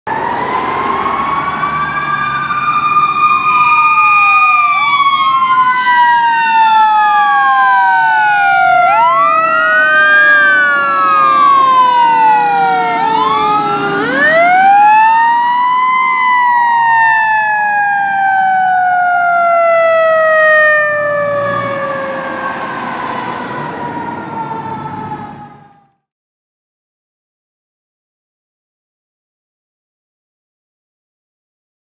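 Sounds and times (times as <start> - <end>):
fire engine sirens wailing: 0.0 - 26.1
truck rumble: 0.1 - 25.8.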